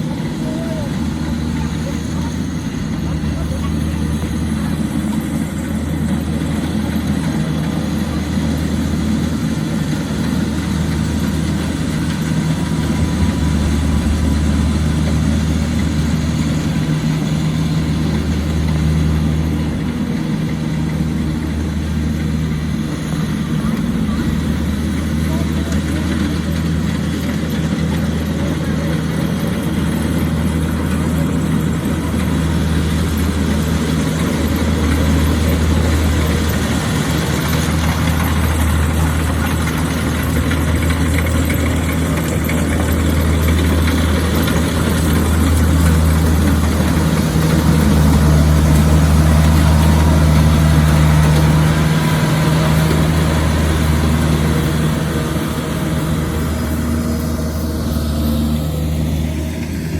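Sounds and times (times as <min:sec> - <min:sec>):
harvesting machine engine humming: 0:00.0 - 0:59.9.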